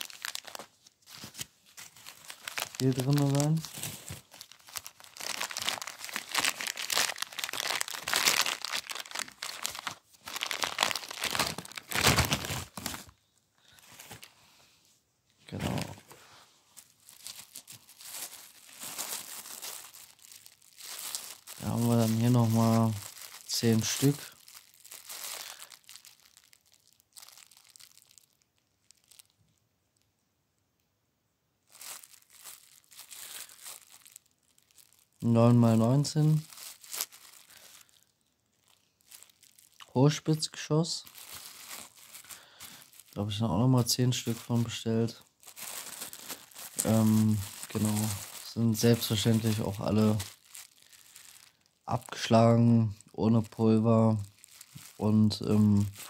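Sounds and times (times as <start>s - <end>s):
glossy paper crinkling: 0.0s - 14.6s, 15.5s - 29.6s, 31.6s - 56.0s.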